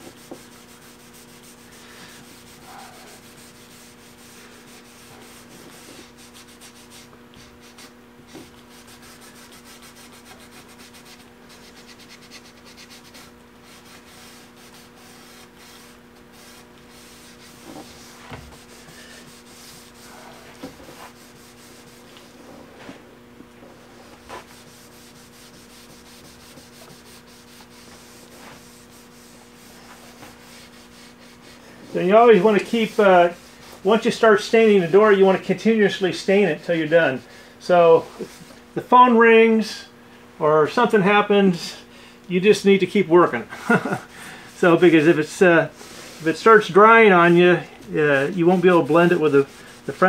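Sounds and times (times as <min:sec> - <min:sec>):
rag wiping across wood: 0:00.0 - 0:23.0, 0:23.6 - 0:37.2, 0:37.9 - 0:38.6, 0:43.7 - 0:50.0
steady hum: 0:00.0 - 0:50.0.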